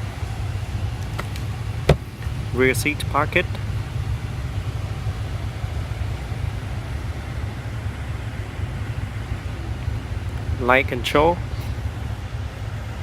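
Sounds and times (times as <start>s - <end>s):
car cabin rumble and hiss: 0.0s - 13.0s.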